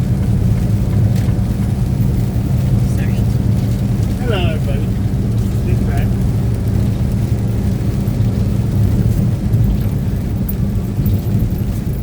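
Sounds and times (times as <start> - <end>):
road noise hiss: 0.0 - 12.0
truck engine hum: 0.0 - 12.0.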